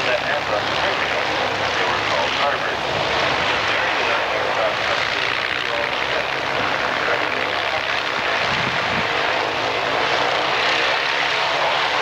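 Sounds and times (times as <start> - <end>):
piston aircraft engine running: 0.0 - 12.0.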